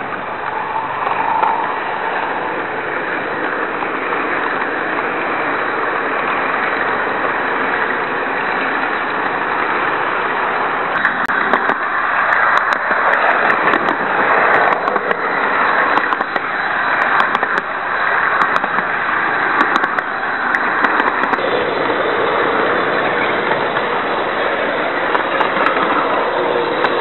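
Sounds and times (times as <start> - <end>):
crackling clicks: 0.0 - 27.0
model train rushing on track: 0.0 - 27.0.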